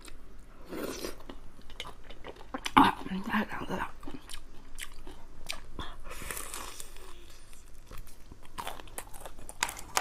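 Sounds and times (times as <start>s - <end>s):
chewing crispy food: 0.0s - 10.0s.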